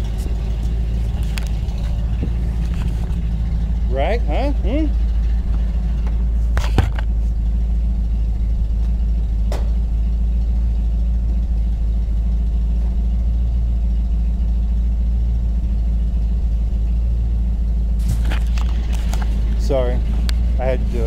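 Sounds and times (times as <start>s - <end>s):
car exhaust idling: 0.0s - 21.0s.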